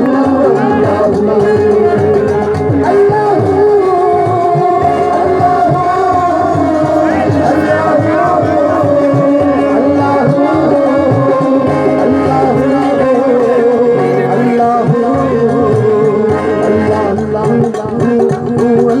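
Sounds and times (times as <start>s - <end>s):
hand drum beat: 0.0s - 19.0s
person singing wavering melody: 0.0s - 19.0s.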